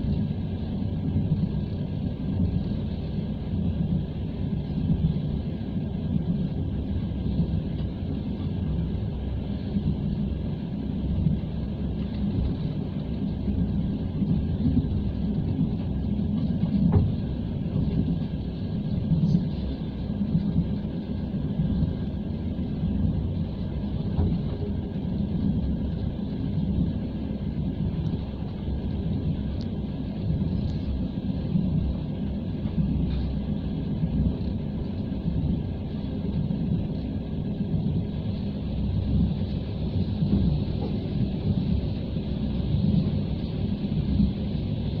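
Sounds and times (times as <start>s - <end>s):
train rumble inside carriage: 0.0s - 45.0s.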